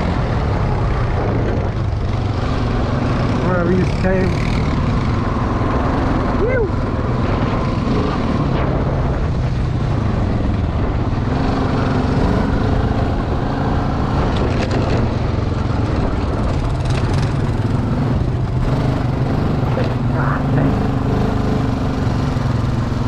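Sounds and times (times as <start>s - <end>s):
atv engine running under load: 0.0s - 23.0s.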